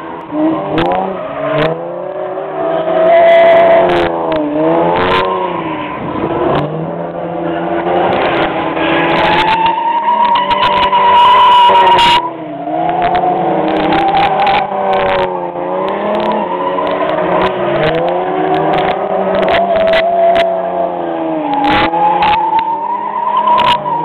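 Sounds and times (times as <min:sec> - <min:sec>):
car engine revving: 0:00.0 - 0:24.0
tires squealing: 0:00.0 - 0:24.0.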